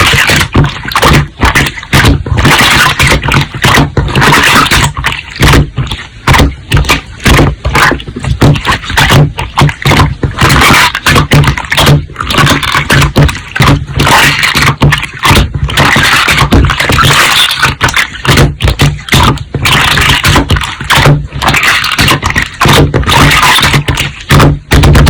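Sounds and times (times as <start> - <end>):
slime squelching and popping: 0.0 - 25.0.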